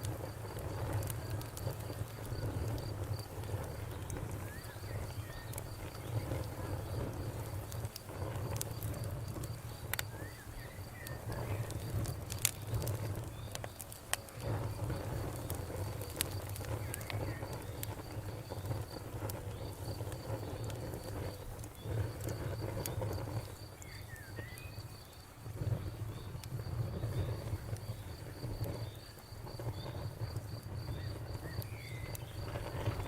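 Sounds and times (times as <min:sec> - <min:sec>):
campfire crackling and popping: 0:00.0 - 0:33.0
crickets chirping: 0:00.0 - 0:33.0.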